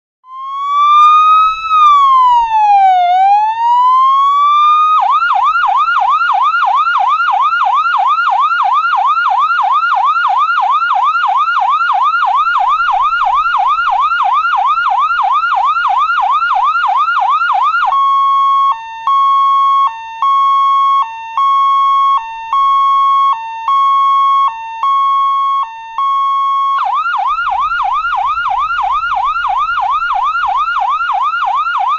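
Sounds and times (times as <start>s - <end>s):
ambulance siren cycling tones: 0.2s - 31.9s.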